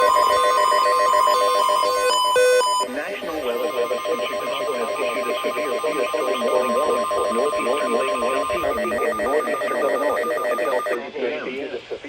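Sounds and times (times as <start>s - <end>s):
fast pulsing beep: 0.0s - 11.0s
steady high electronic tone: 0.0s - 11.0s.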